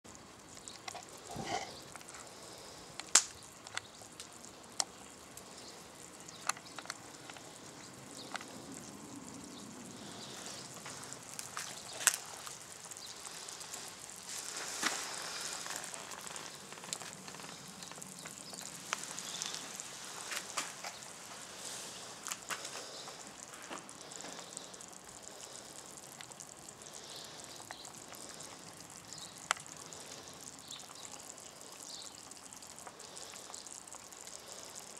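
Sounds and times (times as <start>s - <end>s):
steady low hiss: 0.1s - 34.9s
wood fire crackling: 0.1s - 34.9s.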